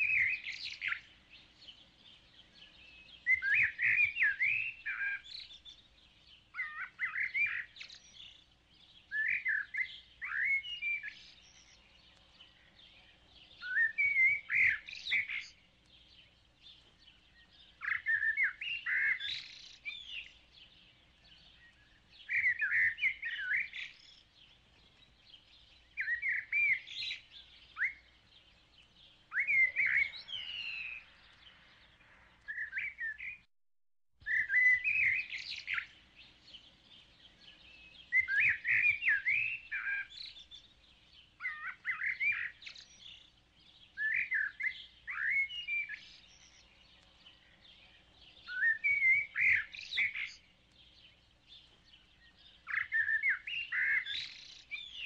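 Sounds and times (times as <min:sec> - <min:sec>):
songbird warbling: 0:00.0 - 0:08.4, 0:09.0 - 0:15.6, 0:17.1 - 0:24.3, 0:25.0 - 0:28.2, 0:29.3 - 0:31.4, 0:34.2 - 0:43.3, 0:43.9 - 0:51.2, 0:51.9 - 0:55.0.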